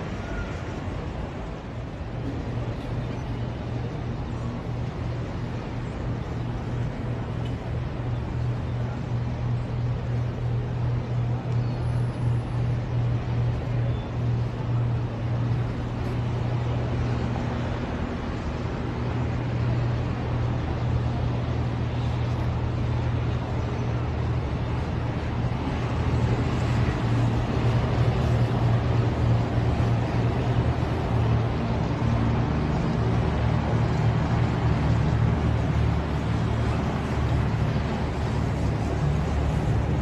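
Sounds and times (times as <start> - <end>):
low engine hum: 0.0 - 40.0
road traffic noise: 0.0 - 40.0.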